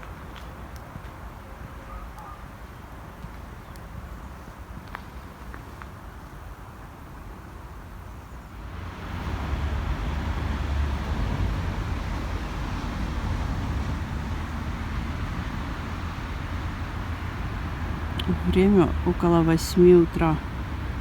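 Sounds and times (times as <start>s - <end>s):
car engine and road rumble: 2.8s - 21.0s.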